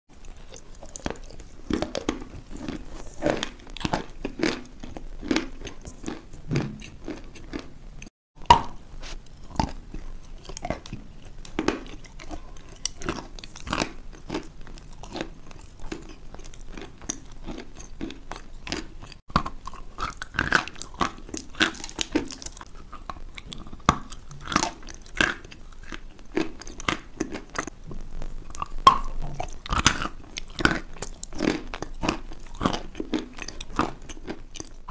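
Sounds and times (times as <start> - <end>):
person chewing crunchy food: 0.1 - 34.9.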